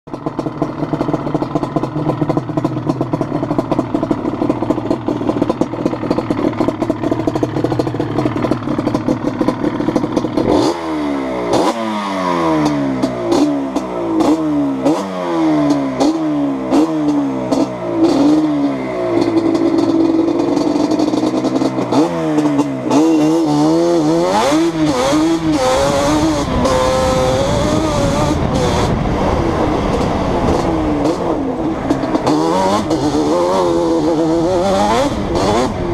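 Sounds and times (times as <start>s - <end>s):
two-stroke quad engine revving: 0.1s - 35.9s.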